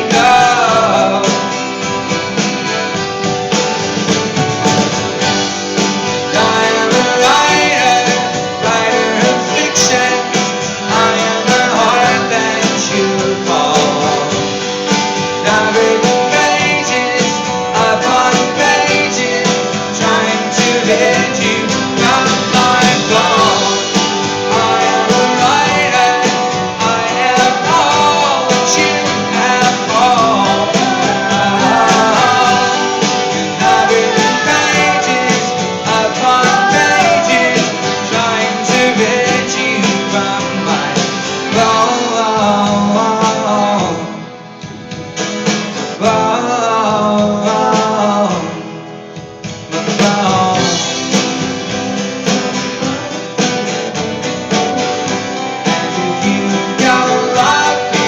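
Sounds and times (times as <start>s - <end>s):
person singing: 0.0s - 3.1s, 5.2s - 44.4s, 46.0s - 48.8s, 49.7s - 51.6s, 54.1s - 58.0s
acoustic guitar: 0.0s - 58.0s.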